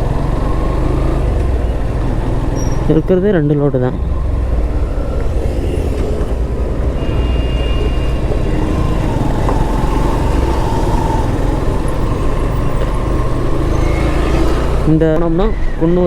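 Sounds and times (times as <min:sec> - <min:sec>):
motorcycle running: 0:00.0 - 0:16.0.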